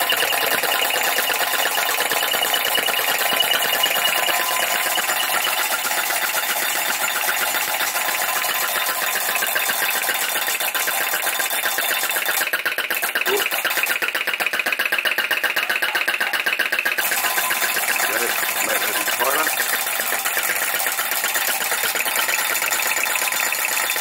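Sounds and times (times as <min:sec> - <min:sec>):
engine ticking: 0:00.0 - 0:24.0
stamper rapid clatter: 0:00.0 - 0:24.0.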